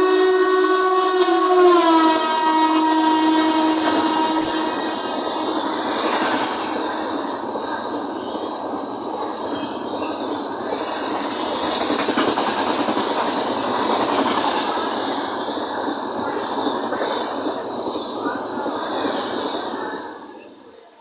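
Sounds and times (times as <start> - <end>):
train rumbling and rattling: 0.0 - 20.9.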